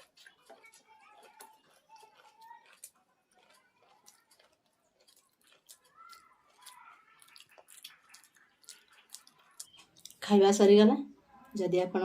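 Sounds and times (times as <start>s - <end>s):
chewing and wet mouth clicks: 0.0s - 10.4s.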